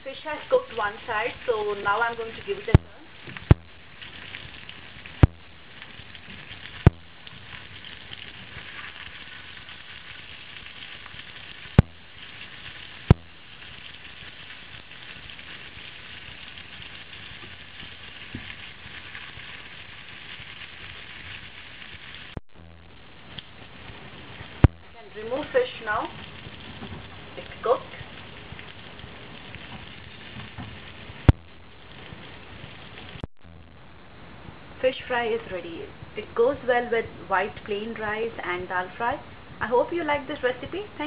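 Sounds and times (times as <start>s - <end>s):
fish sizzling in oil: 0.0s - 33.9s.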